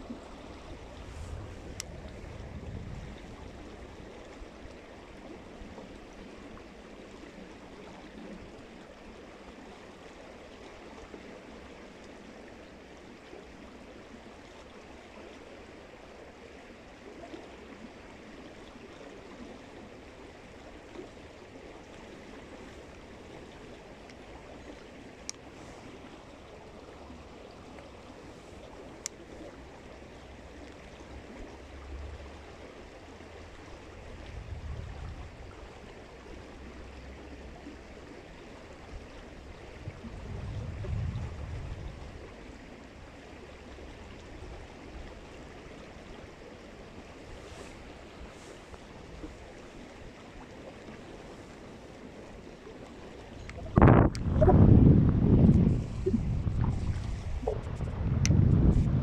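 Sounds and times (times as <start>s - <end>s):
water flowing: 0.0s - 59.0s.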